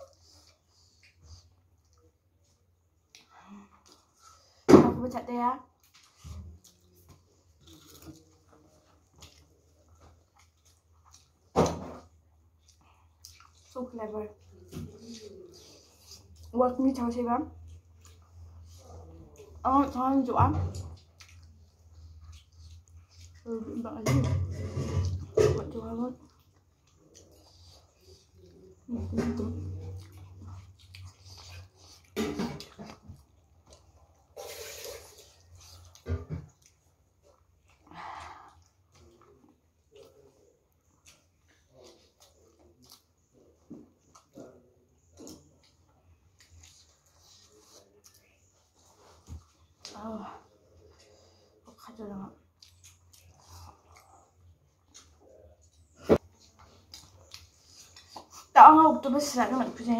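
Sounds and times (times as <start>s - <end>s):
faint eating sounds: 0.0s - 59.9s.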